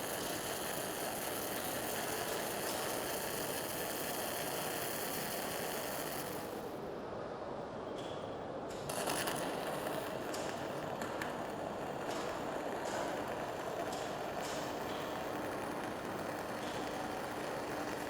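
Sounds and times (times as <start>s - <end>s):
welding arc hissing and crackling: 0.0s - 6.8s, 8.8s - 18.0s.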